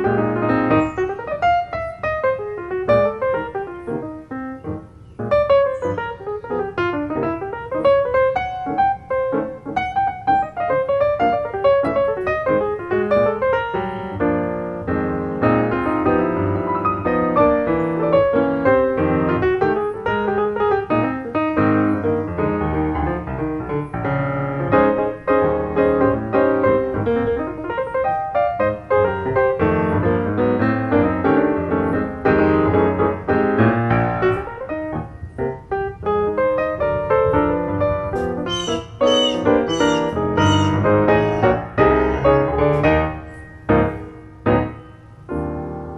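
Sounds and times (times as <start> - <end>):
piano melody with chords: 0.0 - 45.9.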